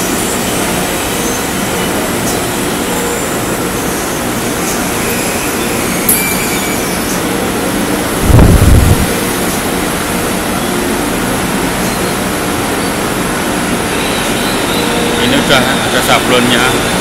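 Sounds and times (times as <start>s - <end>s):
conveyors and machines running: 0.0s - 17.0s.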